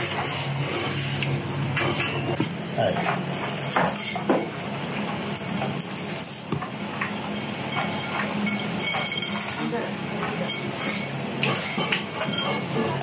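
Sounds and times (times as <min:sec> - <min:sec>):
low kitchen hum: 0:00.0 - 0:13.0.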